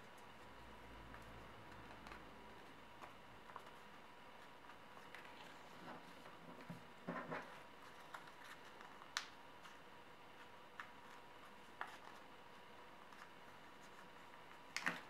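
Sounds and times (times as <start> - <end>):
paper folding crinkles: 0.0 - 6.8, 7.4 - 15.0.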